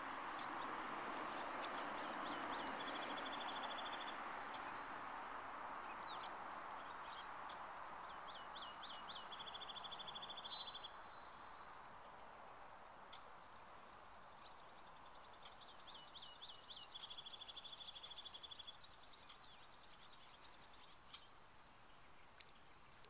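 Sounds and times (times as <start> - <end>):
songbird singing: 0.0 - 23.0
steady outdoor hiss: 0.0 - 23.0.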